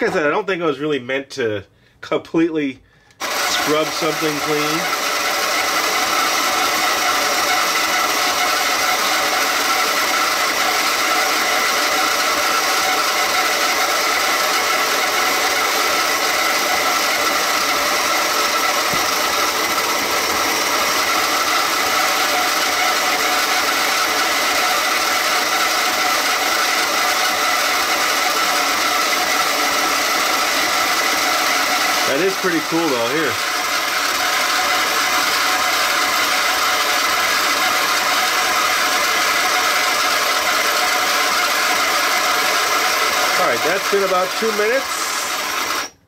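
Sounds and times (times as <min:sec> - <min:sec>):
toy washing machine motor running: 0:03.2 - 0:46.0.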